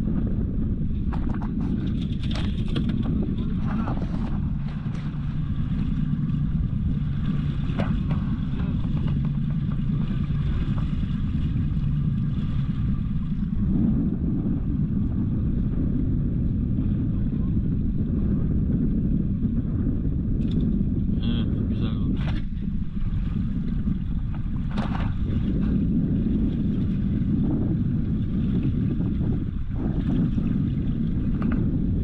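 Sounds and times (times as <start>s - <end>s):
boat motor running: 0.0s - 32.0s.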